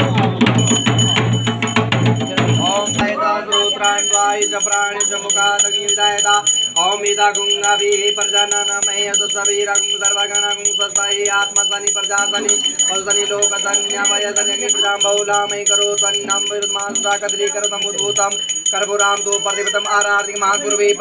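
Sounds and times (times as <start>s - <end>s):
hand bell ringing fast: 0.4s - 21.0s.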